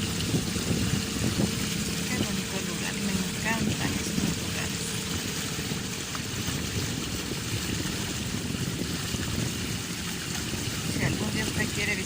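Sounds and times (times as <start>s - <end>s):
boat motor running: 0.0s - 12.0s
water rushing along hull: 0.0s - 12.0s.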